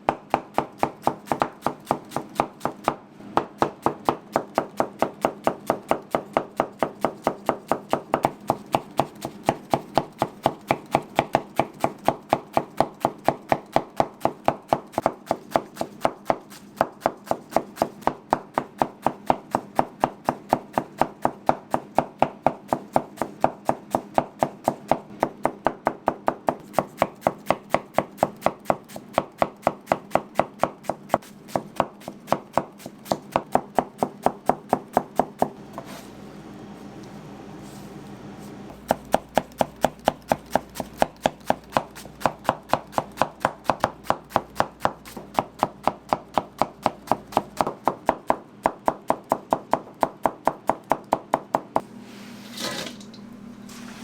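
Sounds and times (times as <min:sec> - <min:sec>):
chopping on a cutting board: 0:00.1 - 0:36.0, 0:38.7 - 0:51.8.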